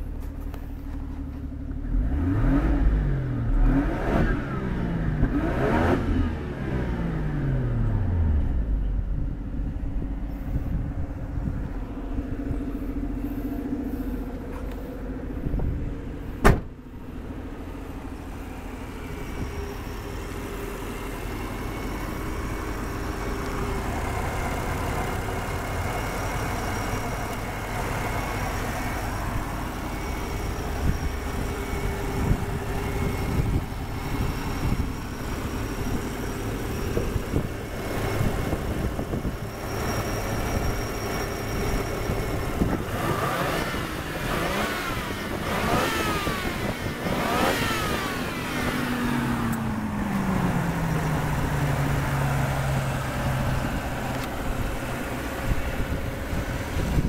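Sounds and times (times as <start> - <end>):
rotary engine idling and revving: 0.0 - 57.0.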